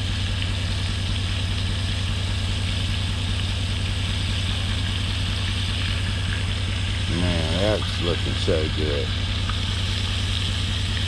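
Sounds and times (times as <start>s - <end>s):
engine idling: 0.0s - 11.0s
fish frying in hot oil: 0.0s - 11.0s.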